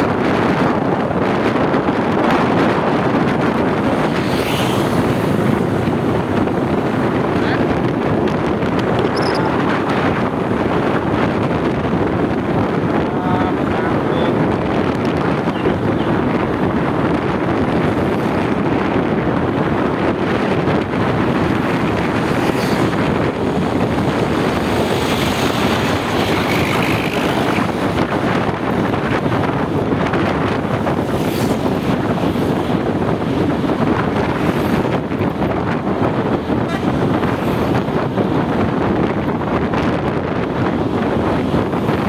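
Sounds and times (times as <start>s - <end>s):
road traffic noise: 0.0s - 42.0s
wind buffeting microphone: 0.0s - 42.0s.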